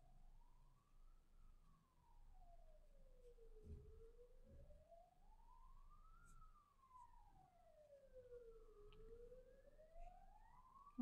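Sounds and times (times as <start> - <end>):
faint siren wailing: 0.3 - 11.0.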